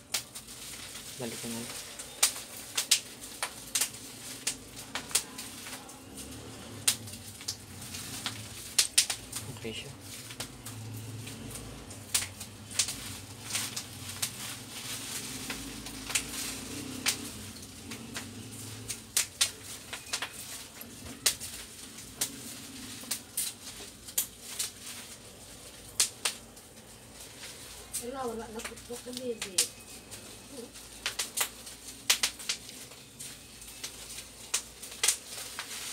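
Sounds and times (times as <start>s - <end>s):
plastic wrapping rustling: 0.0s - 35.9s.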